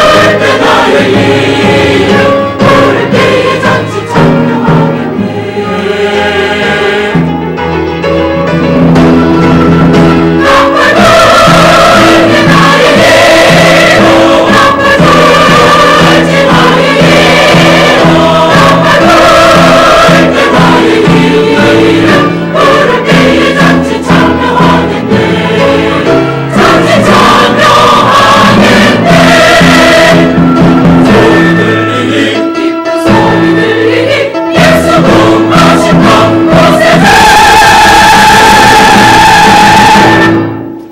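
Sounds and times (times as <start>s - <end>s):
church choir singing: 0.0s - 7.7s, 9.4s - 40.9s.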